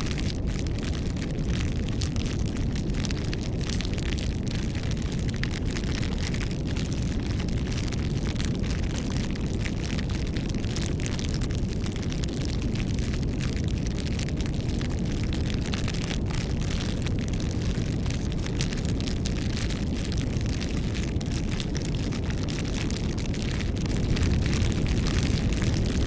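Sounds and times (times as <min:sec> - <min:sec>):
bonfire roaring and crackling: 0:00.0 - 0:26.0.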